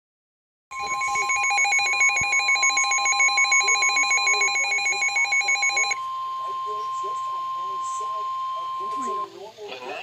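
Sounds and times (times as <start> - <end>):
rapidly pulsing alert beep: 0.7 - 9.2
steady electronic alarm tone: 0.7 - 9.3.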